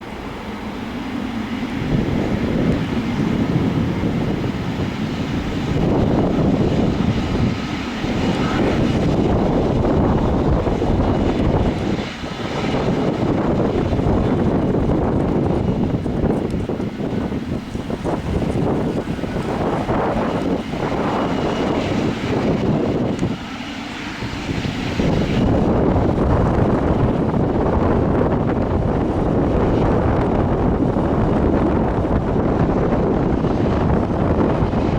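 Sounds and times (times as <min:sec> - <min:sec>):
jet engines at takeoff power: 0:00.0 - 0:34.9.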